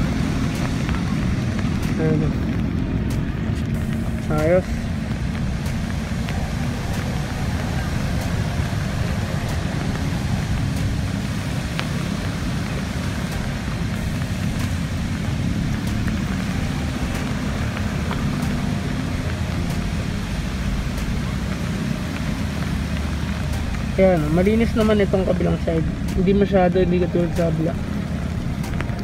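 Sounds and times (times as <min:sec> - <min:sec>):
rain hissing: 0:00.0 - 0:29.0
road traffic rumble: 0:00.0 - 0:29.0.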